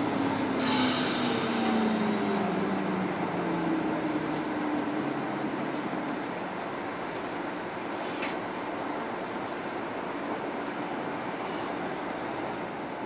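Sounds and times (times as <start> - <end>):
bus engine hum: 0.0 - 13.0
road noise: 0.0 - 13.0.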